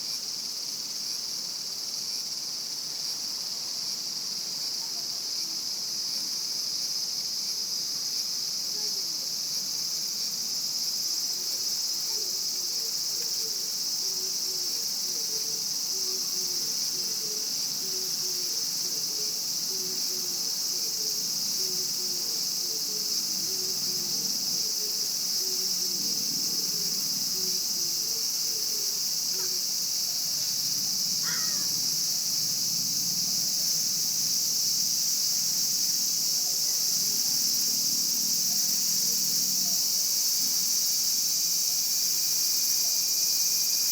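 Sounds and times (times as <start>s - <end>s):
cicadas droning: 0.0s - 43.9s.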